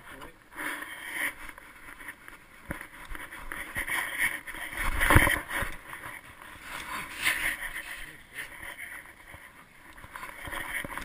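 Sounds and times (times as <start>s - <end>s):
camera rubbing and rustling: 0.0s - 11.0s.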